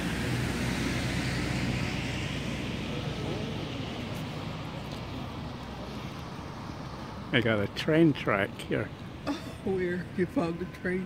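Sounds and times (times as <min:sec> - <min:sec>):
road hiss: 0:00.0 - 0:10.0
vehicle engine hum: 0:00.0 - 0:11.0.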